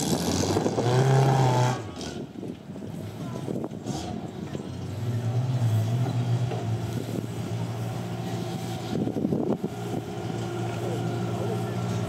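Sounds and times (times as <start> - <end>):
buggy engine running at low revs: 0.0 - 12.0.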